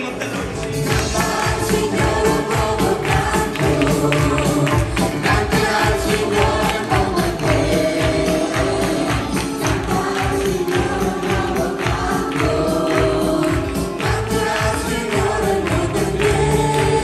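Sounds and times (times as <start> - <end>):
band with steady beat: 0.0 - 17.0
choir singing gospel: 0.0 - 17.0.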